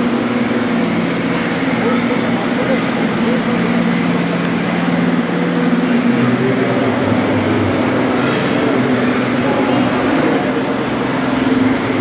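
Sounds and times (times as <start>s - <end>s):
model tractor engines droning: 0.0s - 12.0s.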